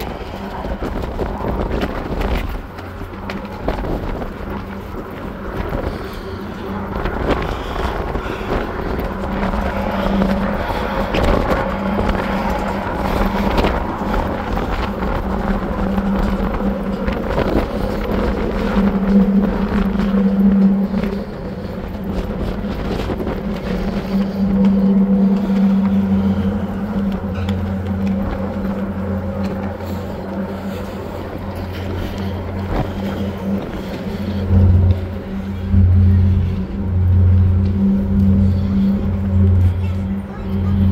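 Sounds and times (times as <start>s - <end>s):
deeper hum: 0.0s - 40.9s
ferry engine hum: 0.0s - 40.9s
wind noise on microphone: 0.0s - 40.9s.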